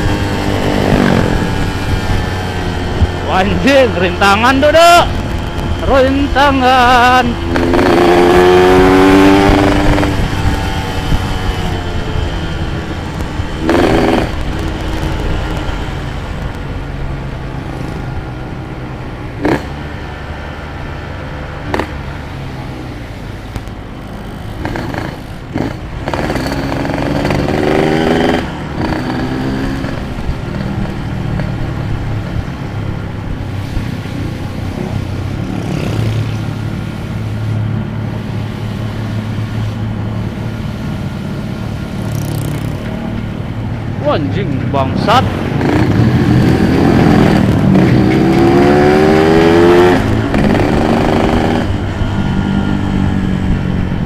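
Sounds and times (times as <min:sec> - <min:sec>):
two-stroke motorcycle engine revving: 0:00.0 - 0:16.3, 0:19.4 - 0:19.9, 0:21.6 - 0:22.8, 0:24.0 - 0:32.5, 0:33.6 - 0:36.9, 0:40.5 - 0:54.0.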